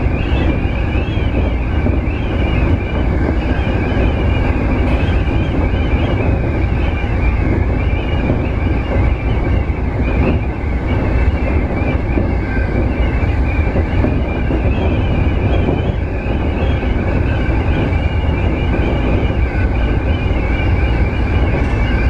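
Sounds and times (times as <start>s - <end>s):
high wavering whine: 0.0s - 22.0s
train wheels rumbling on rail: 0.0s - 22.0s.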